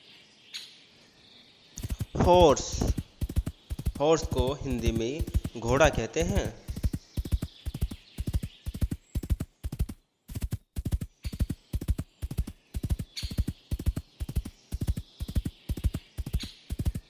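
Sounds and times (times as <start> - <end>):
horse hooves clip-clopping: 1.8 - 17.0.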